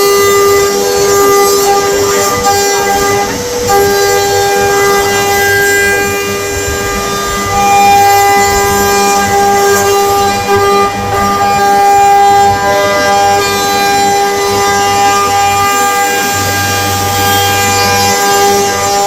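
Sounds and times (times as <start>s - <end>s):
machine spindle whine: 0.0s - 19.0s.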